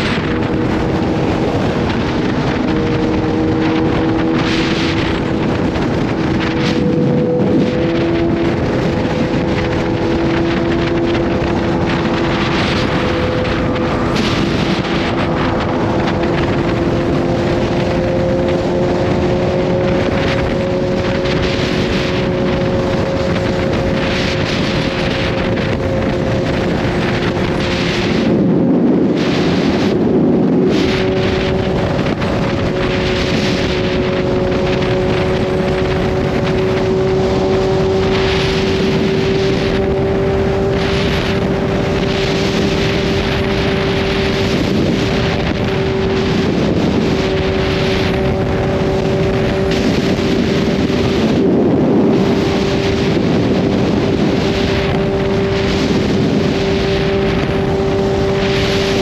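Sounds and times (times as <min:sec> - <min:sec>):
motorcycle engine cruising: 0:00.0 - 0:59.0
rush of noise: 0:00.0 - 0:59.0
wind noise on microphone: 0:00.0 - 0:59.0.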